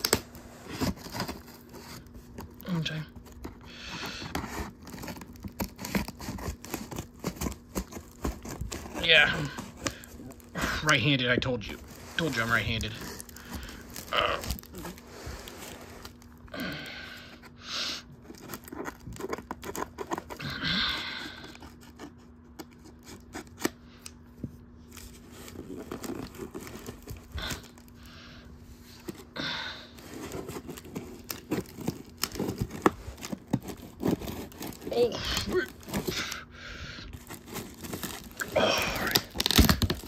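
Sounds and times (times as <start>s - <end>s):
packing tape tearing: 0.0s - 11.0s, 11.7s - 17.5s, 18.1s - 24.2s, 24.8s - 28.3s, 29.9s - 36.5s, 37.1s - 40.0s
cardboard scraping and crinkling: 0.0s - 16.4s, 17.3s - 20.6s, 24.4s - 28.0s, 28.6s - 36.4s, 37.1s - 40.0s
faint steady hum: 0.0s - 40.0s.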